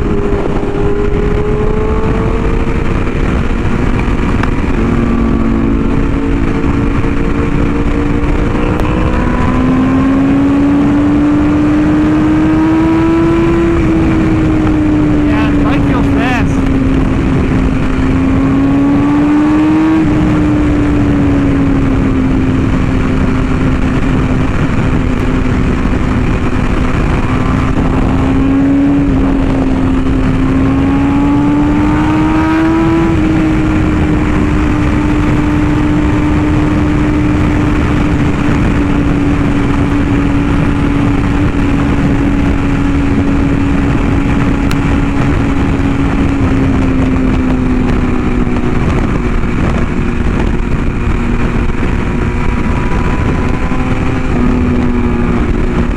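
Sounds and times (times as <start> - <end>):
motorcycle engine at speed: 0.0 - 55.9
wind rush: 0.0 - 55.9.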